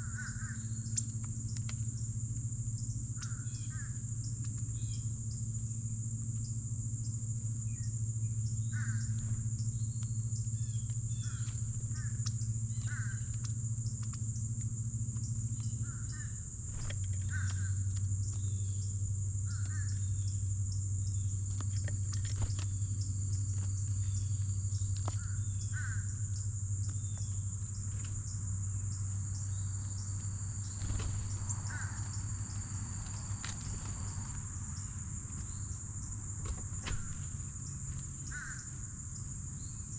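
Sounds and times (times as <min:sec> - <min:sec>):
insect chorus: 0:00.0 - 0:39.9
low steady hum: 0:00.0 - 0:39.9.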